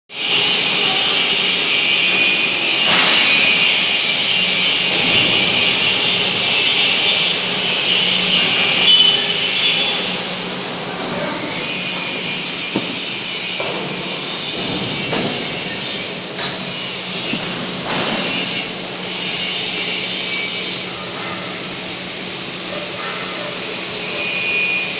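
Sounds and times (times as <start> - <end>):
hissing machinery: 0.1 - 24.9.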